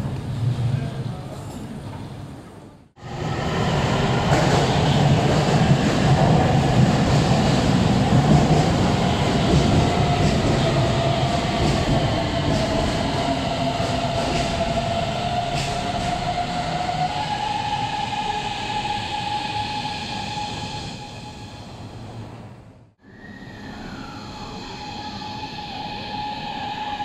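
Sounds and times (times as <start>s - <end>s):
train wheels rumbling on rail: 0.0s - 22.8s.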